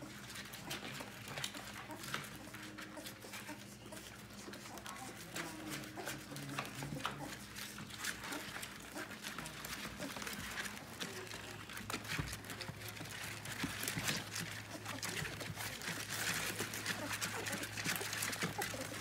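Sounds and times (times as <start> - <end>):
puppies suckling: 0.0 - 19.0
puppies whimpering: 0.0 - 19.0.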